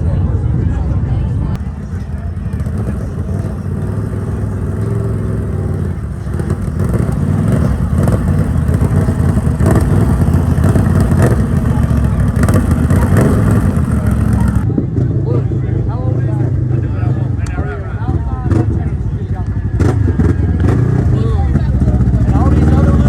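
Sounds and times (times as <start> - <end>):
atv engine running: 1.5 - 23.0.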